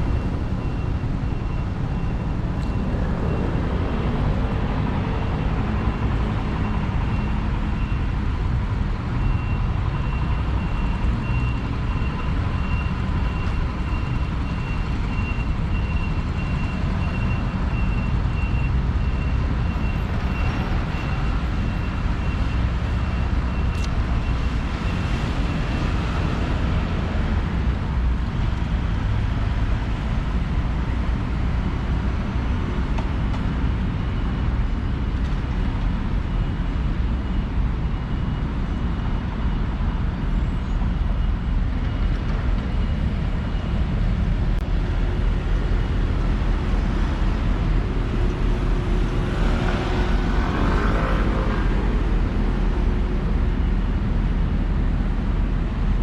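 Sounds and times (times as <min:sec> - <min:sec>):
low rumble of passing vehicles: 0:00.0 - 0:56.0.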